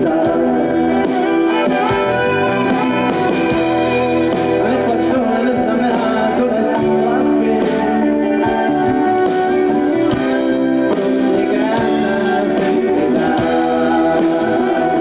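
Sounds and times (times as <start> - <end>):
drum kit: 0.0 - 15.0
electric guitar: 0.0 - 15.0
man singing: 0.0 - 15.0.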